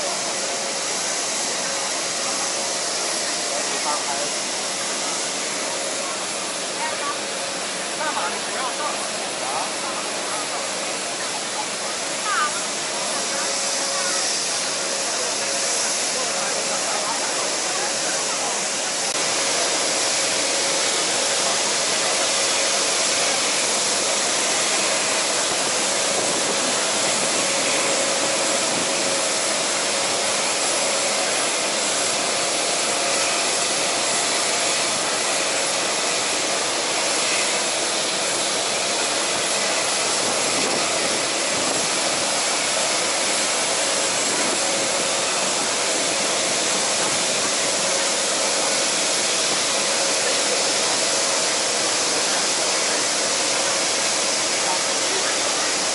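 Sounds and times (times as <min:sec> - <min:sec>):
aircraft turbine whine: 0:00.0 - 0:55.9.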